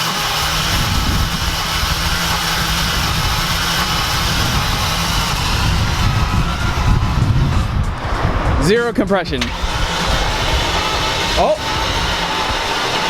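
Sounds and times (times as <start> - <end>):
car engine cranking without starting: 0.0 - 13.0.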